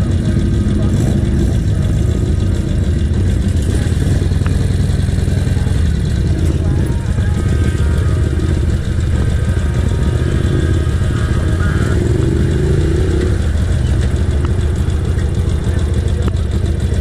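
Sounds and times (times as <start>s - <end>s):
engine revving: 0.0s - 17.0s
motorcycle engine idling: 0.0s - 17.0s.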